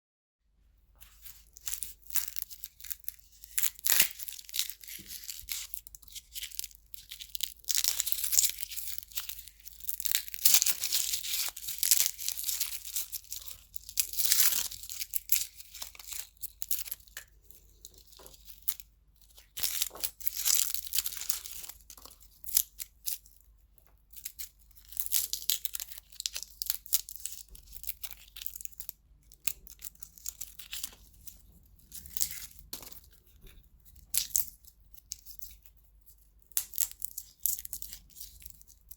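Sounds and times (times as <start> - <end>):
garlic skins crackling and tearing: 1.3 - 23.3, 24.1 - 33.3, 36.4 - 38.9.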